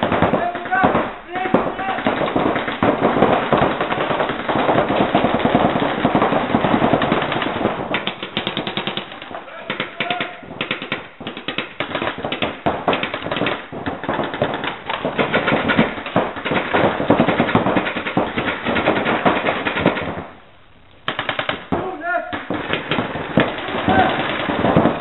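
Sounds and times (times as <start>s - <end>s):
paintball guns firing rapidly: 0.0s - 20.4s, 21.0s - 25.0s.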